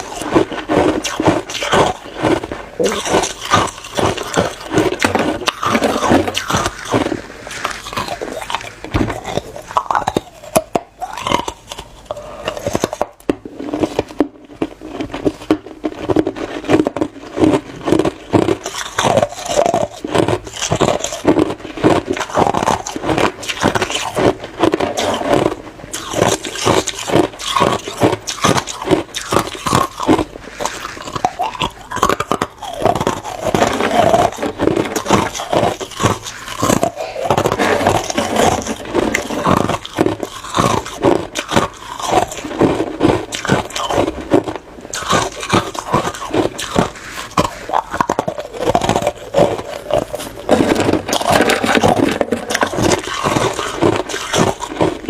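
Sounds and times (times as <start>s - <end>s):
person chewing ice crunching: 0.0s - 55.0s.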